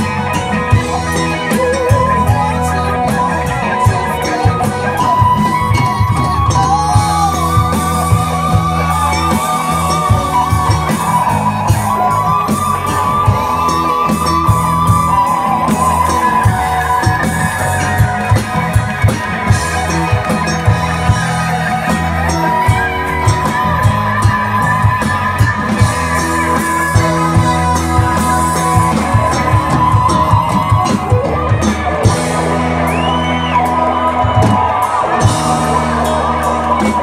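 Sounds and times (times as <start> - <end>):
bass: 0.0 - 37.0
drums steady beat: 0.0 - 37.0
electric guitar: 0.0 - 37.0.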